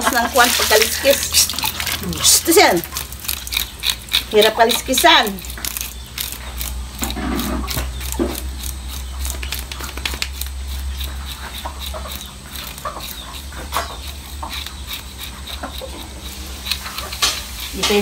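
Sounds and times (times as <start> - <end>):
knife scraping fish scales: 0.0 - 18.0.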